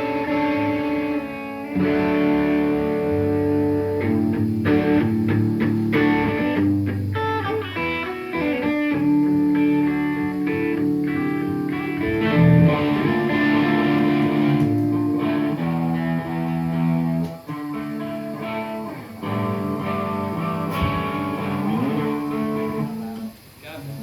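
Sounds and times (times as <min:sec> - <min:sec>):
guitar pitch slide: 0:00.0 - 0:23.4
guitar playing chords: 0:00.0 - 0:23.6.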